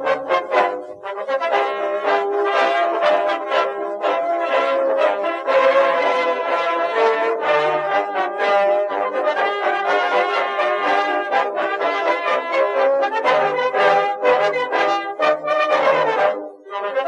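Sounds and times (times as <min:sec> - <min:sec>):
brass band playing lively tune: 0:00.0 - 0:17.0.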